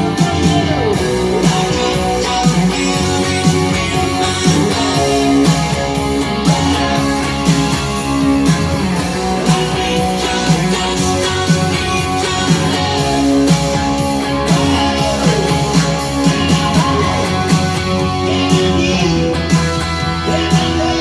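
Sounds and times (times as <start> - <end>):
electric guitar strumming: 0.0 - 21.0.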